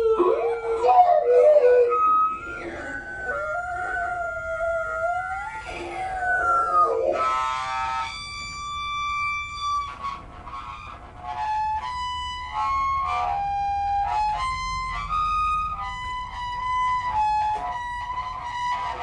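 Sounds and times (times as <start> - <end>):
held pitched noise notes: 0.0 - 19.0.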